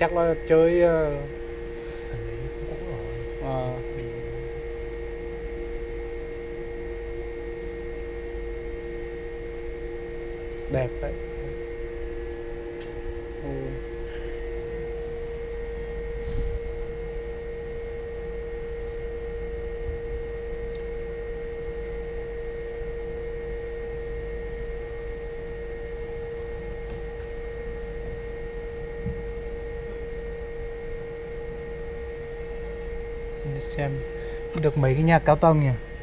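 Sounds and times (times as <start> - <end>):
machine hum with constant tone: 0.0 - 36.0.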